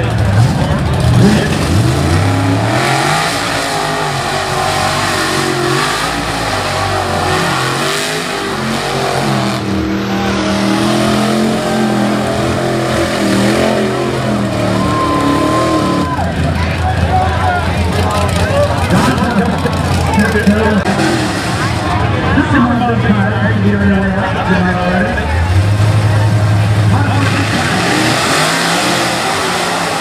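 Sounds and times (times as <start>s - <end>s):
truck engine revving hard: 0.0s - 30.0s.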